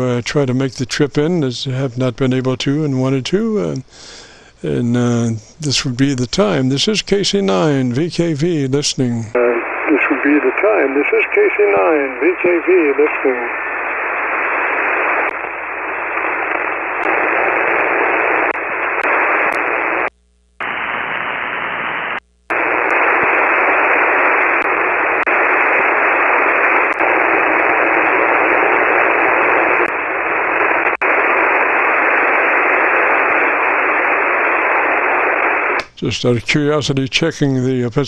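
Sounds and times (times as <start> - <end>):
radio receiver hiss: 0.0 - 38.0.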